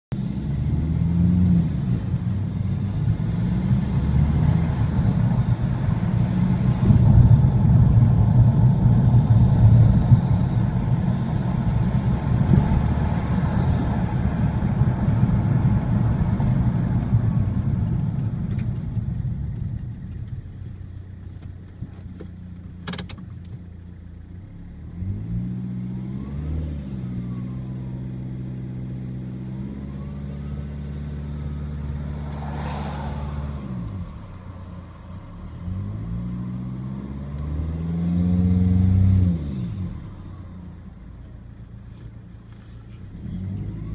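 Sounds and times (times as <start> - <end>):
car engine pulling hard: 0.1 - 43.9.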